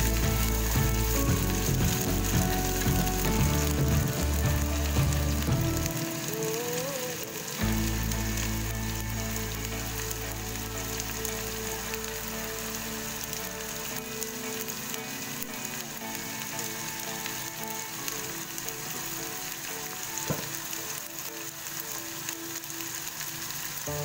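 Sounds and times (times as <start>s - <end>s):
chili paste sizzling in oil: 0.0s - 24.0s.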